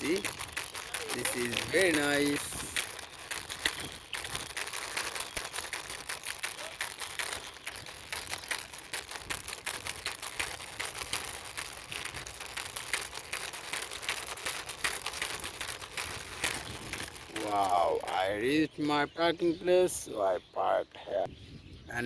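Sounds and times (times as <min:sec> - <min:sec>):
plastic toy wheels rolling: 0:00.0 - 0:18.7.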